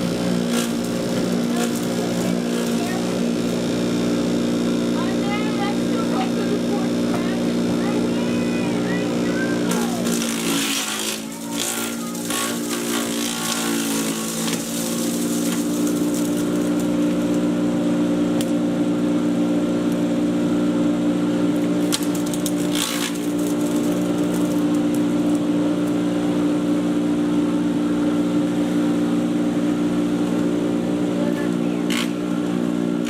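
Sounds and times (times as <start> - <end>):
chipper shredder motor hum: 0.0 - 33.0
shredder crackles: 0.0 - 33.0.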